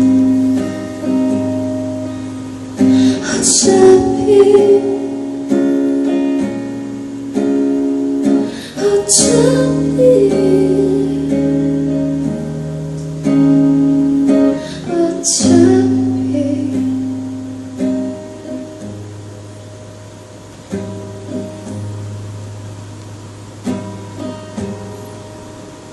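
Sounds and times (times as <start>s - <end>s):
acoustic guitar strumming chords: 0.0s - 25.9s.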